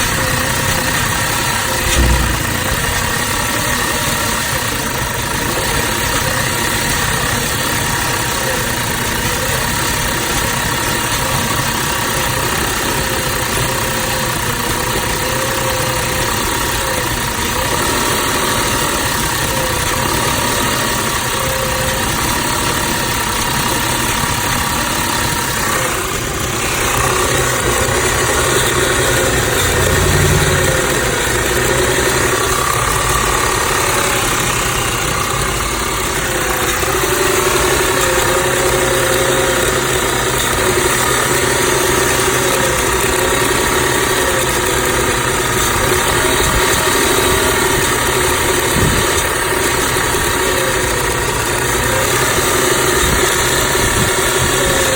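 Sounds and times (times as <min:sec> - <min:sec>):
car engine idling rough: 0:00.0 - 0:54.9.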